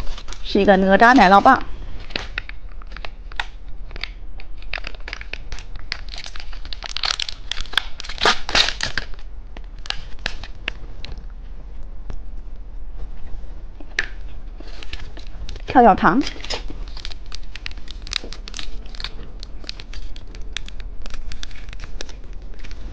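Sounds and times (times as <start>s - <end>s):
plastic packaging crinkling: 0.0s - 11.2s, 14.0s - 22.9s.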